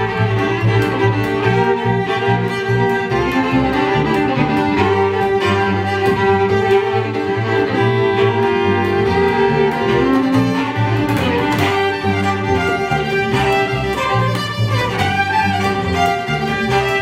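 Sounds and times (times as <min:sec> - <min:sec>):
two fiddles playing: 0:00.0 - 0:17.0
upright double bass: 0:00.0 - 0:17.0.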